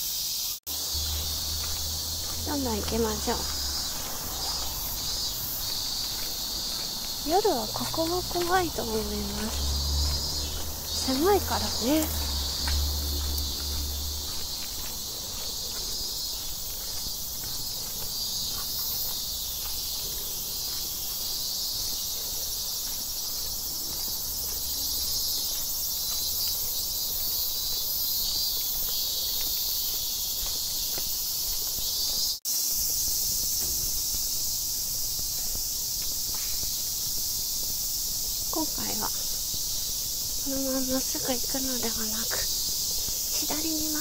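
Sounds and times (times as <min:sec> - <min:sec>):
insects trilling: 0:00.0 - 0:44.0
footsteps on pavement: 0:00.7 - 0:44.0.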